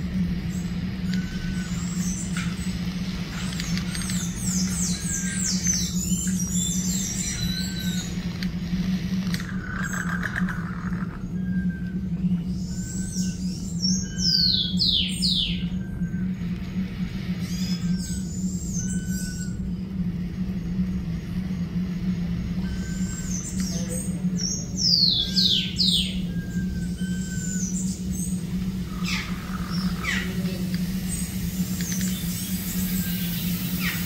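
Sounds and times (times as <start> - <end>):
birds whistling descending notes: 0.0 - 34.0
steady low hum: 0.0 - 34.0.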